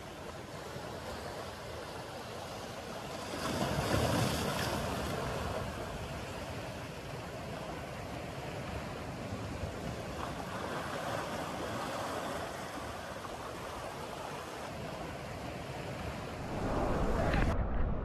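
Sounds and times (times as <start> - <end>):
small waves breaking on sand: 0.0 - 17.5.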